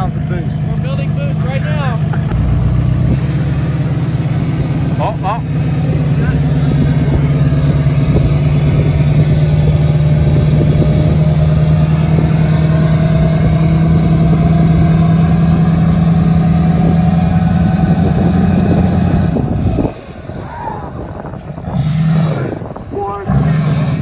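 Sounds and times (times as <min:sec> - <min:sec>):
diesel engine at full throttle: 0:00.0 - 0:24.0.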